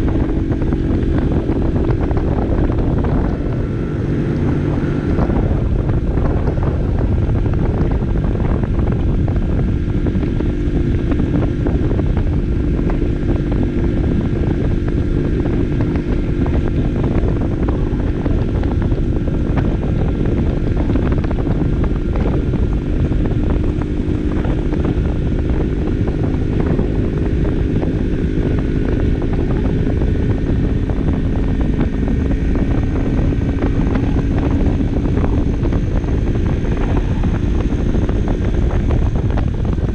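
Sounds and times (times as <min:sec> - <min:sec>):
moped engine humming: 0:00.0 - 0:39.9
wind rumble on microphone: 0:00.0 - 0:39.9.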